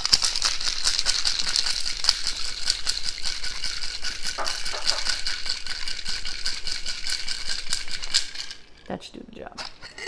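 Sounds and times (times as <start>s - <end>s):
ice rattling in cocktail shaker: 0.0s - 10.0s.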